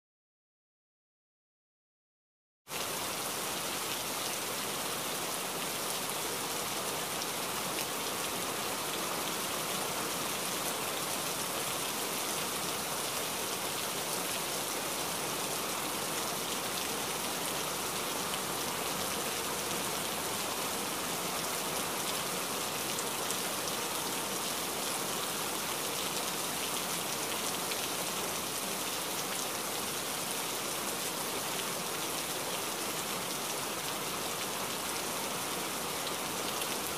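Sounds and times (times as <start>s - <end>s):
steady rain falling: 2.7s - 36.9s.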